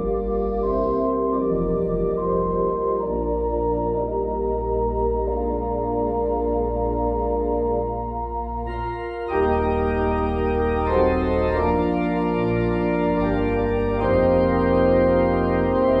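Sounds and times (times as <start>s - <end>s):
organ playing held chords: 0.0s - 16.0s.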